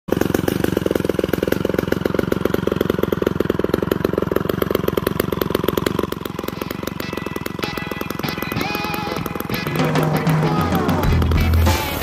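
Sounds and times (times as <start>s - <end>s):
chainsaw engine idling: 0.1s - 12.0s.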